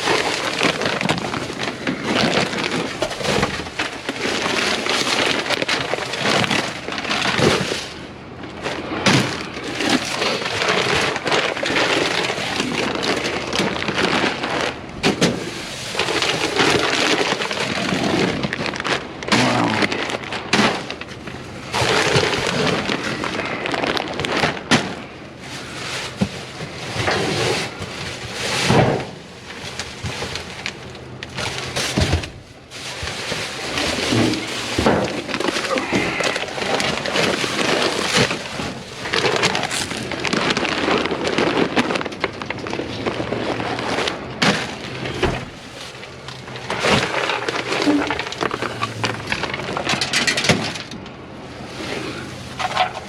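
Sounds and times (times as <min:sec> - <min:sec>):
bags and packaging rustling: 0:00.0 - 0:53.0.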